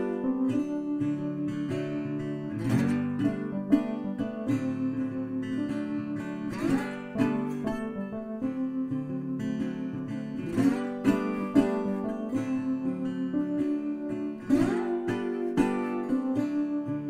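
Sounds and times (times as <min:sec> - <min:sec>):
acoustic guitar strumming and picking: 0:00.0 - 0:17.0.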